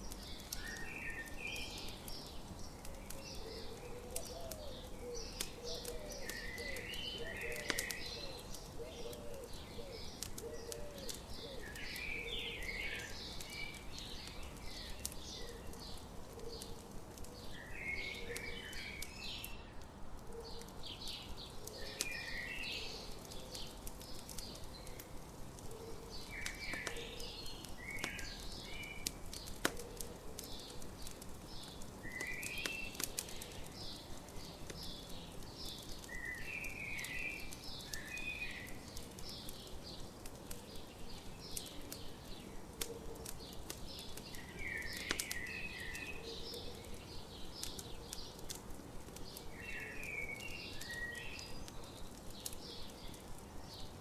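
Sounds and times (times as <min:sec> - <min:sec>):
campfire crackling and popping: 0:00.0 - 0:54.0
songbirds chirping: 0:00.0 - 0:54.0.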